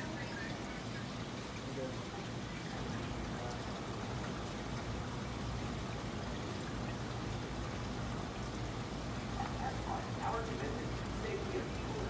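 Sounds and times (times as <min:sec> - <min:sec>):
running and trickling water: 0:00.0 - 0:12.0.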